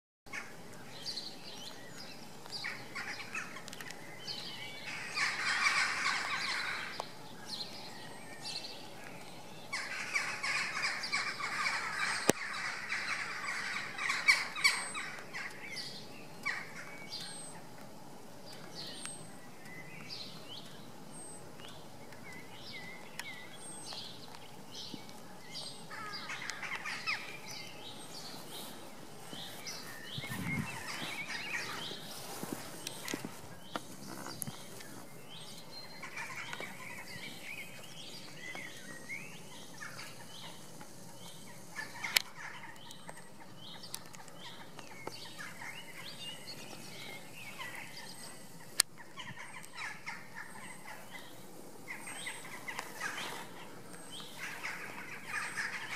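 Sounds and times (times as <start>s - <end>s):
songbirds chirping: 0.3s - 55.9s
dense bird chattering: 4.4s - 7.8s, 9.6s - 17.8s, 18.5s - 55.9s.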